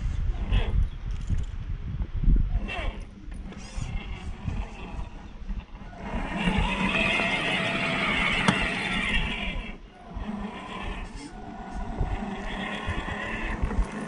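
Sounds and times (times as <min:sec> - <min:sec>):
electric motor and gearbox whining: 0:02.6 - 0:14.0.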